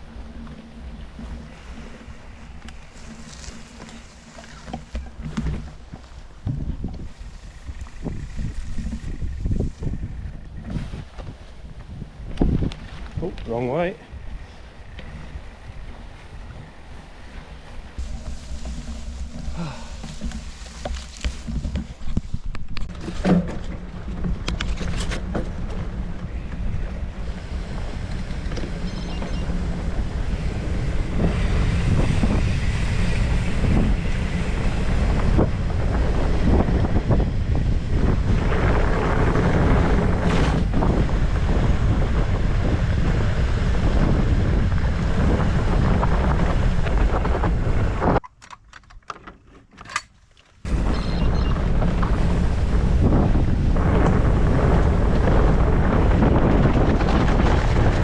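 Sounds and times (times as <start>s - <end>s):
bike tyres rumbling on rough trail: 0.0s - 48.2s, 50.6s - 58.0s
wind buffeting microphone: 0.0s - 48.2s, 50.6s - 58.0s.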